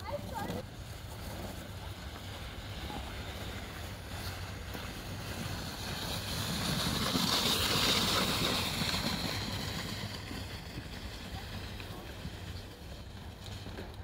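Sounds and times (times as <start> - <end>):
snowboard scraping on snow: 0.0 - 14.0.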